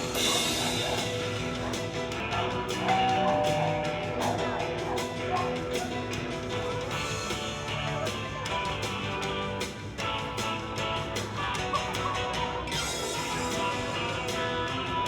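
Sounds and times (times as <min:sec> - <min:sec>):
upbeat music with guitar and drums: 0:00.0 - 0:15.0.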